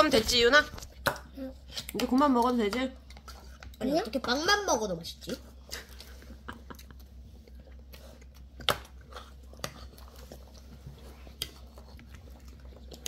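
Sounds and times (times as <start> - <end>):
child chewing: 0.8 - 2.1, 3.0 - 13.0.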